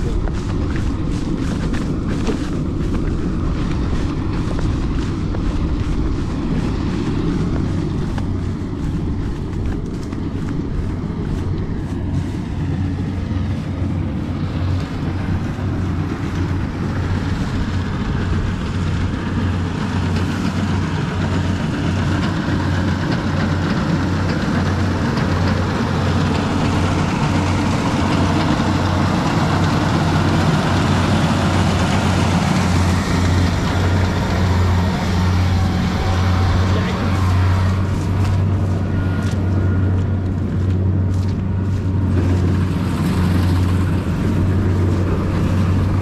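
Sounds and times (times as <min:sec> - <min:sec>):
combine harvester running: 0:00.0 - 0:46.0.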